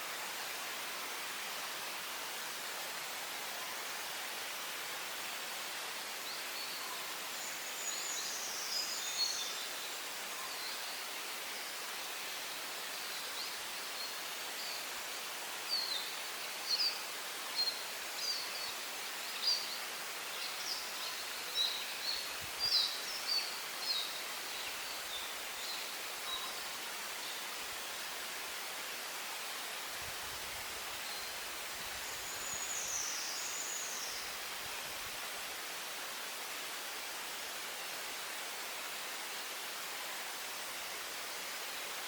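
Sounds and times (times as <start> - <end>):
forest birds chirping: 0.0 - 42.0
wind in trees: 0.0 - 42.0.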